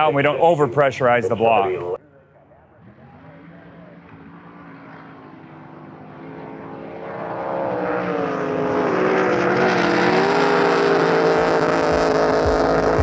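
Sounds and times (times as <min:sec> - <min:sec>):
racing boat engine: 0:00.0 - 0:13.0.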